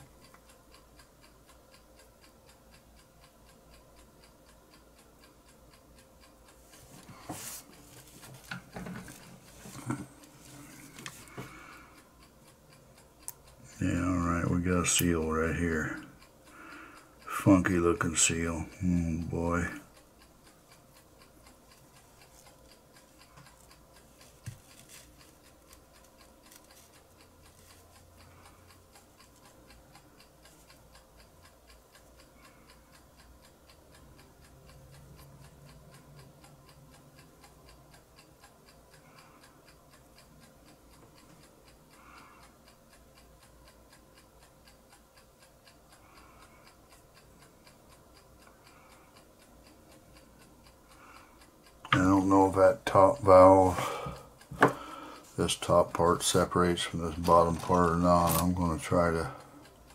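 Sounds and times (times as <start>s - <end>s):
faint regular ticking: 0.0s - 59.9s.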